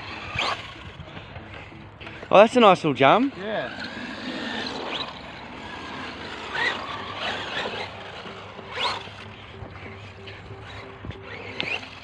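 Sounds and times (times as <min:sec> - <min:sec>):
rc trucks motors and tyres: 0:00.0 - 0:12.0
rising motor whines: 0:00.0 - 0:12.0.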